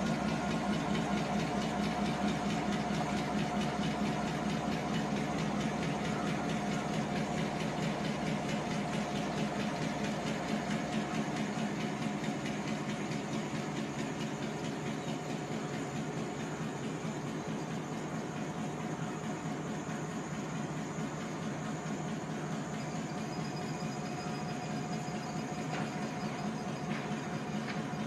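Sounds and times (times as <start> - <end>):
diesel locomotive engine idling: 0.0 - 28.0.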